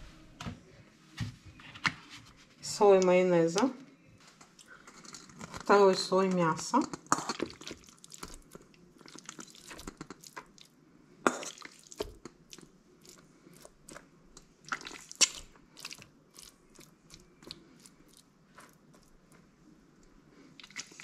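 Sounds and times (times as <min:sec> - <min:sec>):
soft wet squelches: 0:03.0 - 0:21.0.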